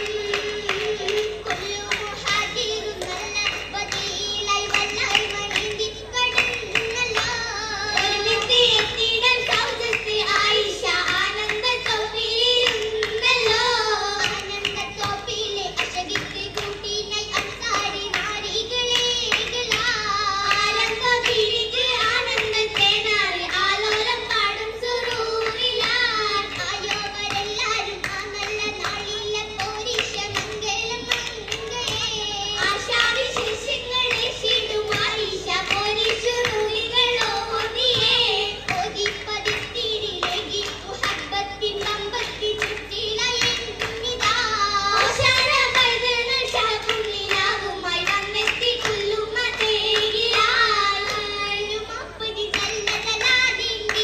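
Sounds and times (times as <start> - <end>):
girls singing in chorus: 0.0 - 54.0
hand claps: 0.0 - 54.0.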